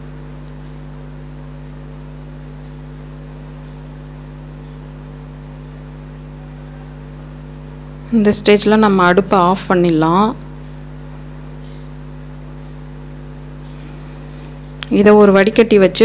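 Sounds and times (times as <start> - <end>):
electrical motor hum: 0.0 - 16.0.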